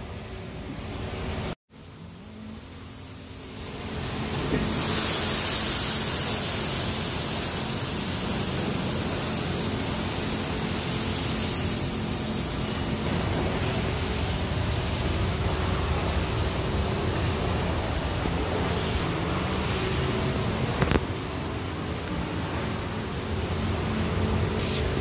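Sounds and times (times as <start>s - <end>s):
high-pressure water spraying: 2.3s - 25.0s.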